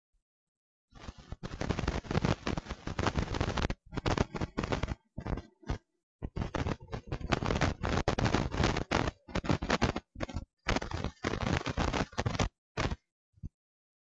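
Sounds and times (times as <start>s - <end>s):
dense rapid crackling: 1.0s - 13.0s.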